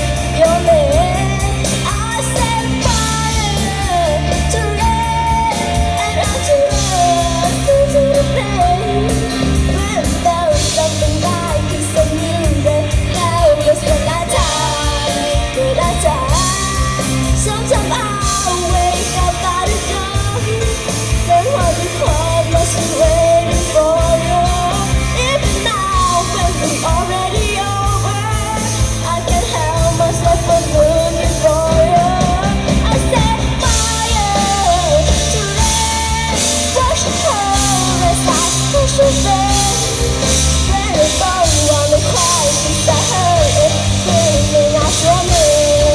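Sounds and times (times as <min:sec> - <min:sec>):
lead singer singing: 0:00.0 - 0:45.9
live rock band playing: 0:00.0 - 0:45.9.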